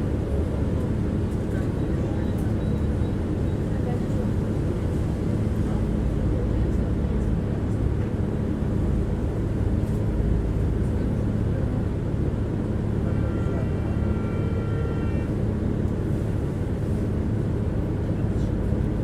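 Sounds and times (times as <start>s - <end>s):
tram wheels rumbling on track: 0.0s - 19.0s.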